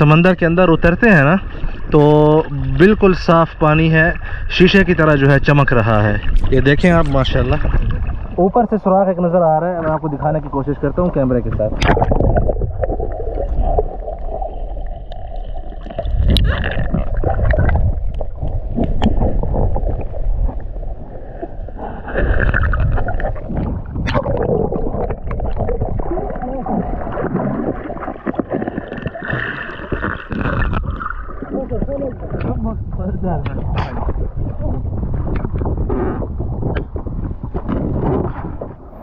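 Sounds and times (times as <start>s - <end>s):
underwater gurgling and sloshing: 0.0s - 39.0s.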